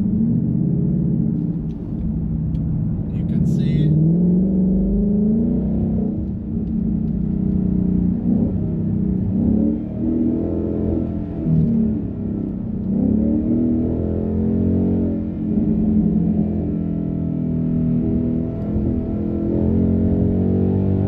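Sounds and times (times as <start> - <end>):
car engine accelerating and easing off: 3.0 - 21.0.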